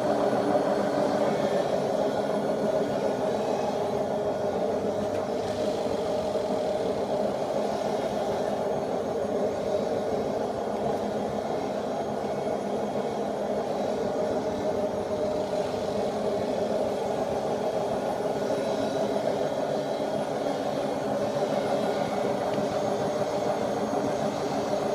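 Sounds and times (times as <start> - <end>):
washing machine drone: 0.0 - 24.9.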